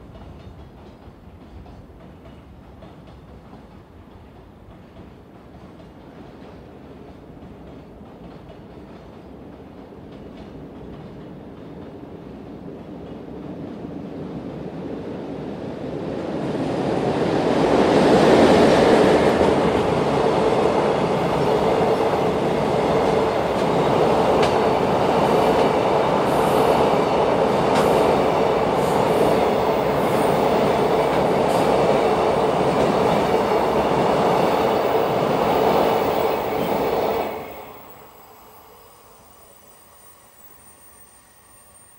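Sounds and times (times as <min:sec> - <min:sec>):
electric locomotive passing: 0:00.0 - 0:41.9.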